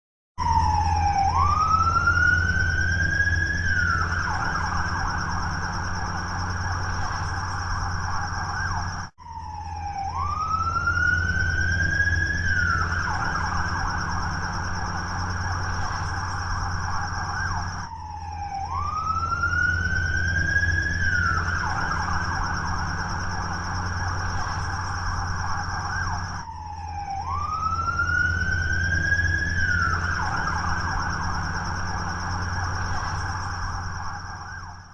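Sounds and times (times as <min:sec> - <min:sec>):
police siren: 0:00.4 - 0:34.9.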